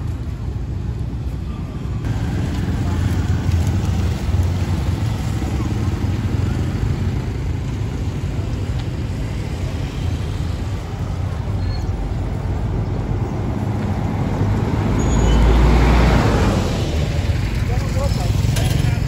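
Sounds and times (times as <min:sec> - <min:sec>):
motorbike and car engines passing: 0:02.0 - 0:19.0.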